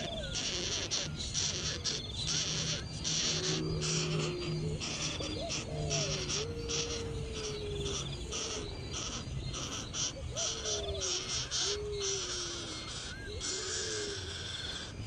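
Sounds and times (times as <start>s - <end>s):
low drawn-out falling calls: 0.0s - 15.0s
pulsing insect-like chirring: 0.0s - 15.0s.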